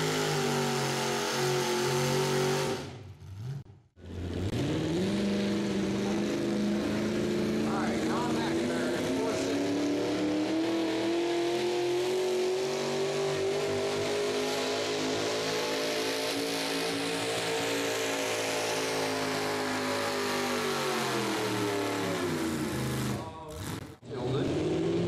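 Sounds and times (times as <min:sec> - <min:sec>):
tractor engine under full load: 0:00.0 - 0:25.0.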